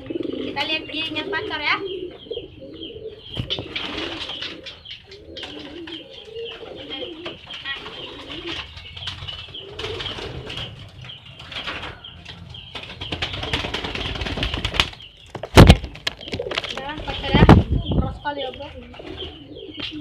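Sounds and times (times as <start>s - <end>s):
pigeon cooing: 0.0s - 12.7s, 15.6s - 20.0s.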